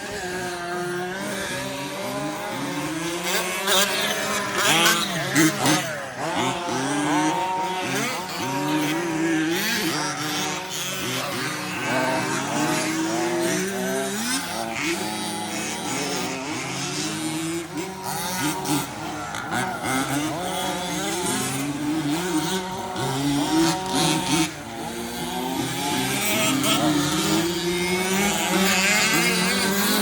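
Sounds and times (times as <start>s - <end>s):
remote-control truck motors whining: 0.0s - 30.0s.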